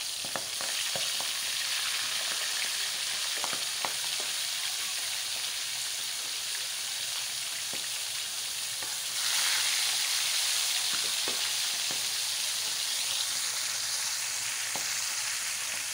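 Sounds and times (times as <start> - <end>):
fish sizzling in oil: 0.0 - 15.9.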